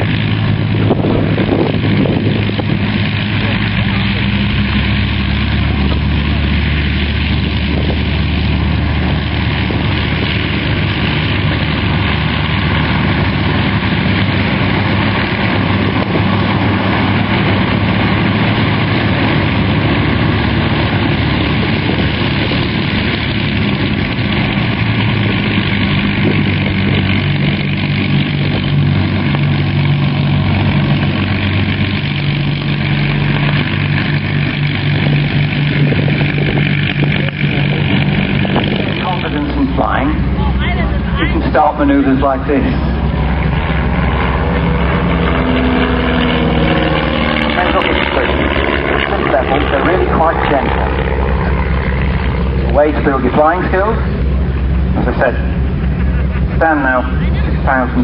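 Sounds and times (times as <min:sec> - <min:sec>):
propeller aircraft engine drone: 0:00.0 - 0:58.0.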